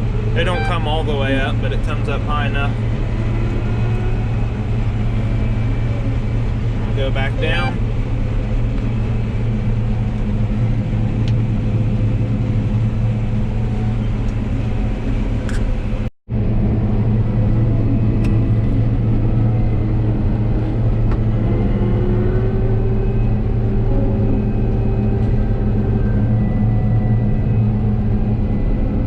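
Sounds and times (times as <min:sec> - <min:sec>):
combine harvester drone: 0:00.0 - 0:29.0.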